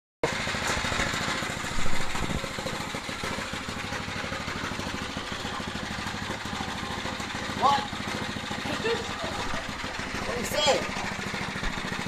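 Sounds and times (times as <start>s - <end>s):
mini bike engine running: 0.2s - 12.0s.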